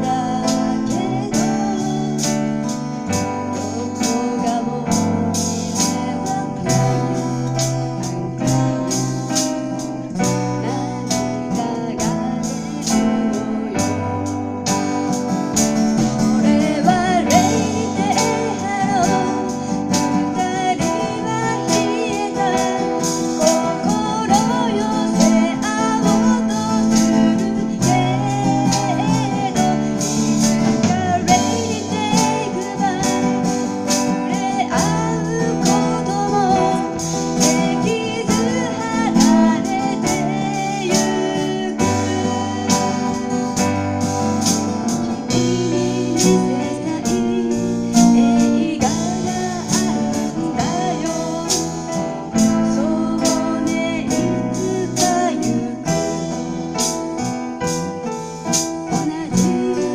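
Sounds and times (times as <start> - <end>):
acoustic guitar: 0.0 - 59.9
keyboard playing: 0.0 - 59.9
person singing: 0.0 - 59.9.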